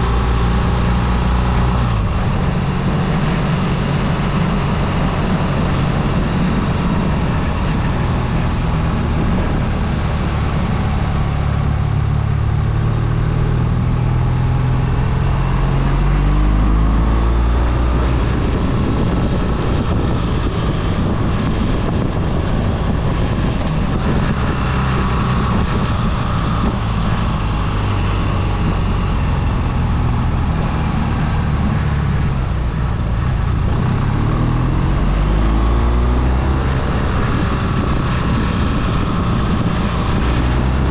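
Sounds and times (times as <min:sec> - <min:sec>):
road and wind noise: 0:00.0 - 0:40.9
vehicle engine accelerating: 0:00.0 - 0:40.9.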